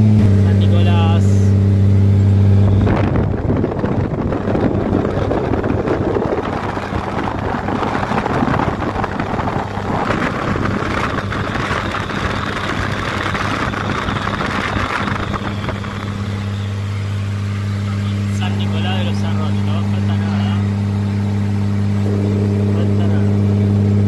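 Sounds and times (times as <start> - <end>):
road and wind rush: 0.0 - 24.0
truck engine hum: 0.0 - 24.0.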